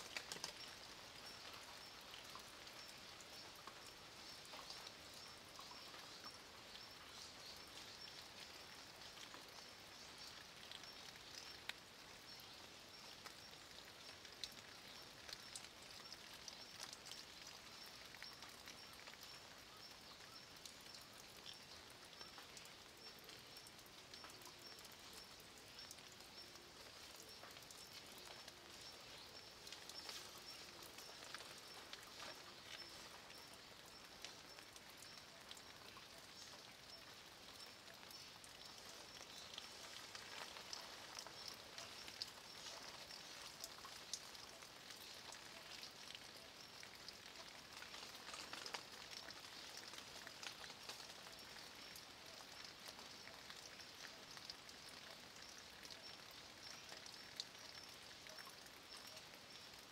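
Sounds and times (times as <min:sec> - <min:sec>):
light rain drops ticking: 0:00.0 - 0:59.9.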